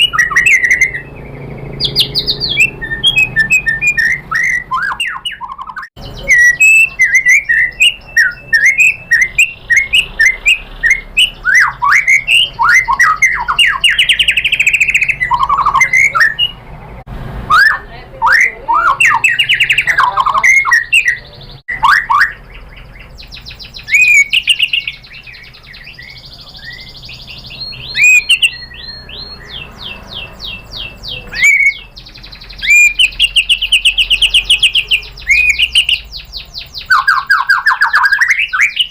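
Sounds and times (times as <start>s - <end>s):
bird singing whistled song: 0.0s - 16.6s, 17.5s - 38.9s.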